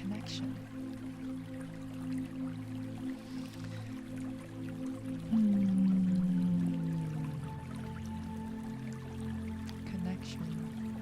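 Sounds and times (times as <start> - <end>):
soft music of low tones: 0.0 - 11.0.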